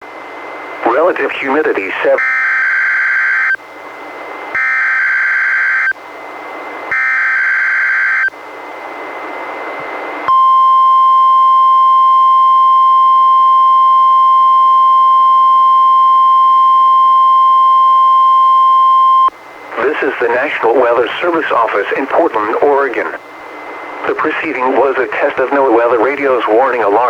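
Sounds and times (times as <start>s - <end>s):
steady warning alarm tone: 0.8s - 8.4s, 10.3s - 27.0s.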